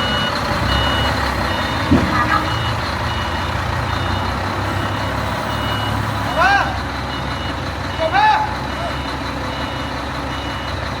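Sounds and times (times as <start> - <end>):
reversing alarm beeping: 0.0 - 11.0.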